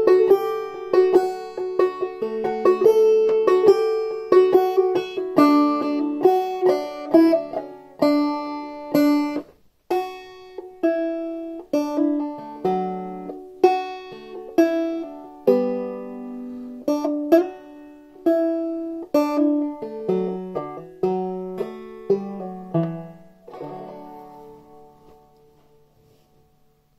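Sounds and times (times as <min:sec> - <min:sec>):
banjo plucked notes: 0:00.0 - 0:26.9.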